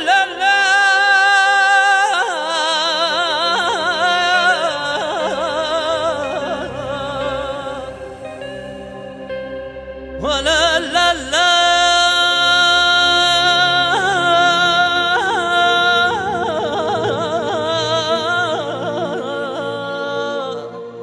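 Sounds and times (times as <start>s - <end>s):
man singing wordless notes: 0.0s - 9.2s, 10.2s - 21.0s.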